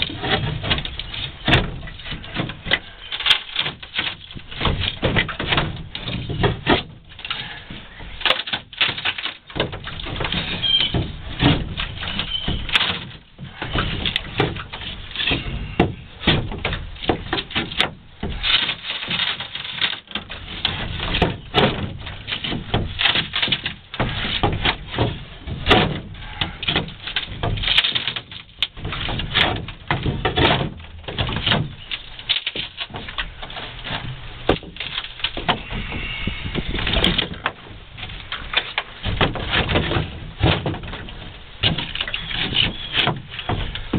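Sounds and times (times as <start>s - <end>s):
hand tool knocking and scraping wood: 0.0s - 43.9s.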